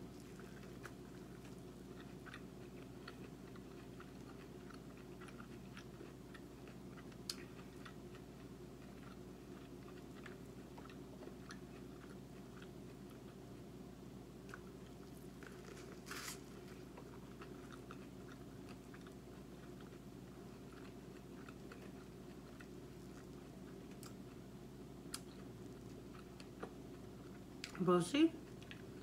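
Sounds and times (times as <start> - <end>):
person chewing corn: 0.0 - 13.7, 14.4 - 27.8, 28.4 - 29.0
steady low hum: 0.0 - 29.0.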